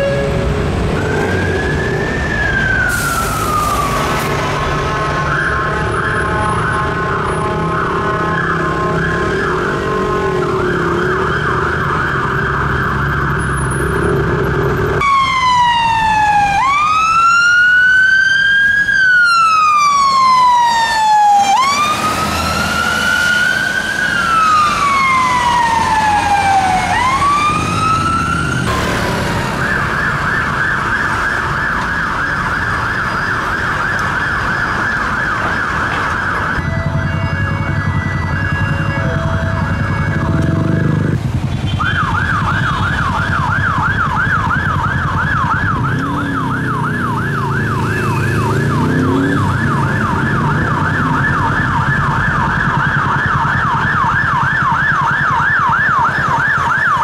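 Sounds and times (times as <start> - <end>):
slow wailing siren: 0.0 - 57.0
traffic rumble: 0.0 - 57.0
fast yelping siren: 5.0 - 13.7, 15.0 - 28.7, 29.5 - 57.0.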